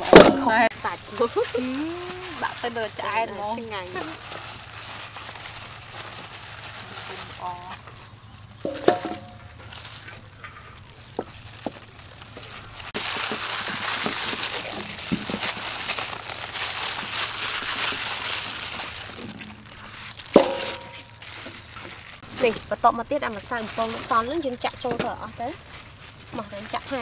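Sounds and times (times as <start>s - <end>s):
glove rustling with flour: 0.1s - 27.0s.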